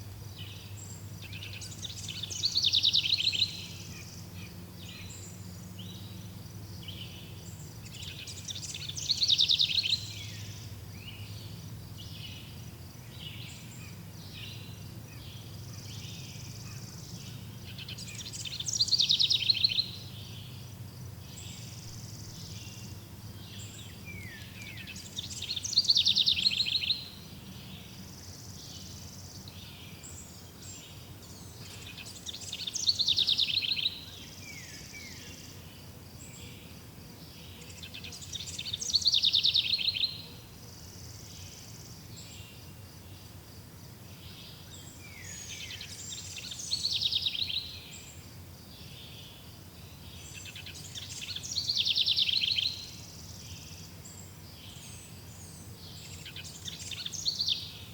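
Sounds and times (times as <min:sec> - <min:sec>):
faint insects: 0:00.0 - 0:57.9
songbird song phrase: 0:00.0 - 0:57.9.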